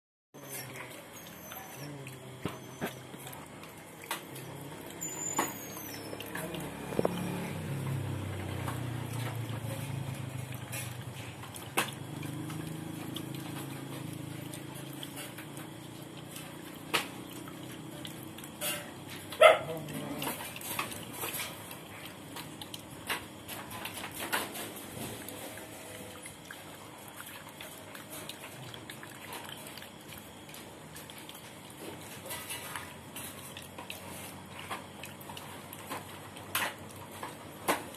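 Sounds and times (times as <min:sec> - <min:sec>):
dog lapping from steel pot: 0:00.4 - 0:37.9.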